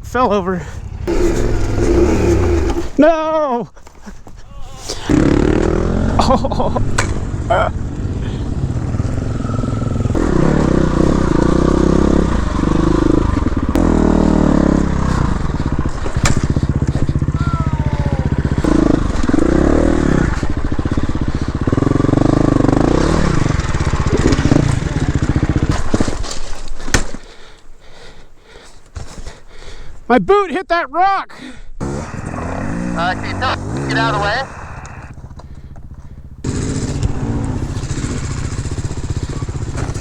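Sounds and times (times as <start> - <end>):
dirt bike engine revving: 0.2 - 3.3, 5.0 - 26.9, 31.8 - 40.0.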